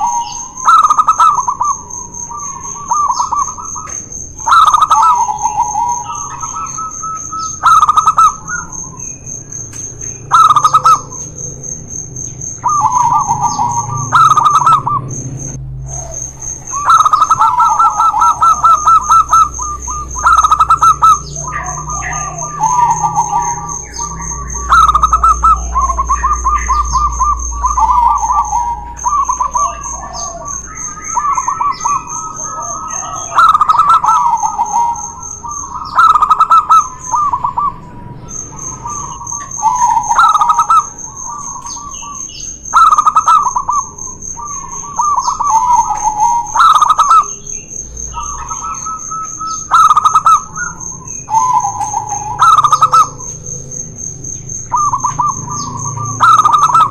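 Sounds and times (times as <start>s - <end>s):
doves cooing: 0.0s - 56.9s
steady high-pitched whine: 0.0s - 56.9s.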